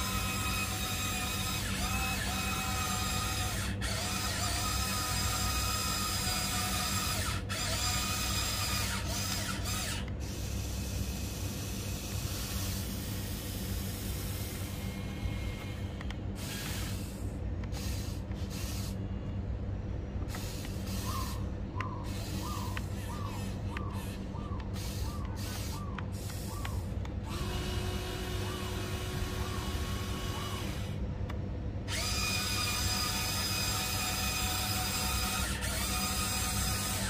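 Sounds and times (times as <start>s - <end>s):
toy excavator motors whining: 0.0s - 19.4s, 20.2s - 31.1s, 31.8s - 37.0s.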